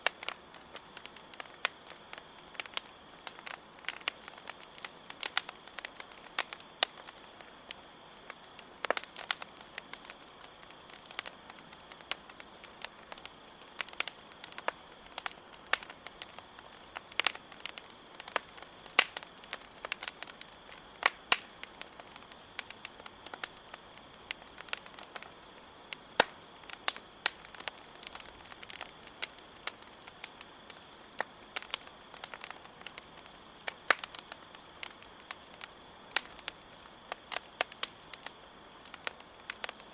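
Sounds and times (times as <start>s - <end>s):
campfire crackling: 0.0s - 39.9s
crickets chirring: 0.0s - 39.9s.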